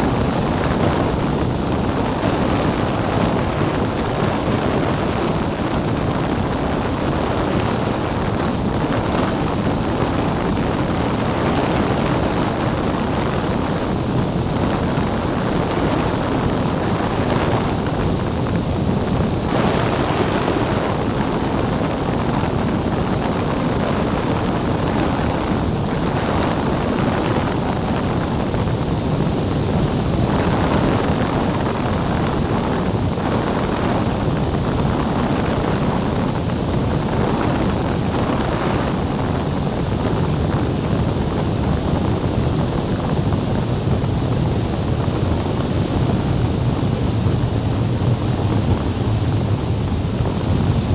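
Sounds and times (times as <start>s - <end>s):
light aircraft engine drone: 0.0s - 50.9s
wind rush: 0.0s - 50.9s.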